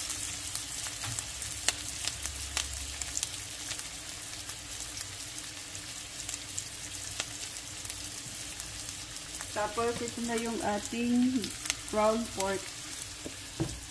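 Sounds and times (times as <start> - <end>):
oil popping and crackling: 0.0 - 13.9
onion sizzling in a frying pan: 0.0 - 13.9.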